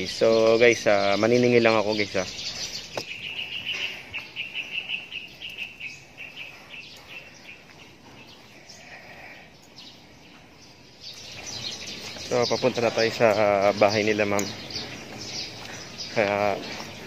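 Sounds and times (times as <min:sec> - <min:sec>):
bird chirping: 0:00.0 - 0:17.0
faint outdoor background noise: 0:00.0 - 0:17.0.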